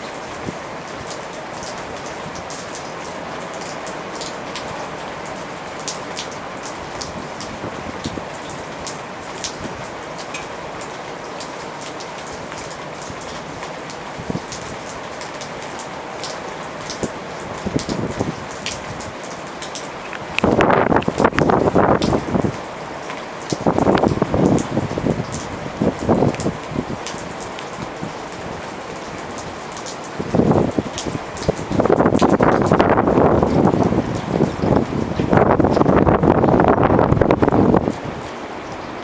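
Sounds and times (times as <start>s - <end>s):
rain rushes: 0.0s - 39.0s
raindrops ticking on a surface: 0.0s - 39.0s
steady rain: 0.0s - 39.0s.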